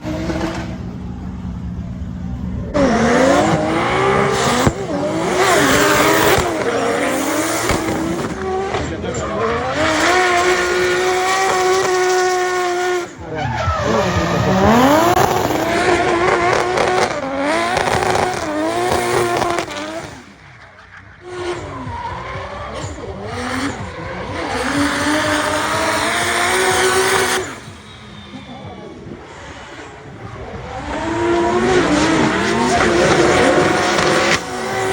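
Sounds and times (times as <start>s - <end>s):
car engine revving: 0.0s - 34.9s
tyres squealing: 2.8s - 34.9s.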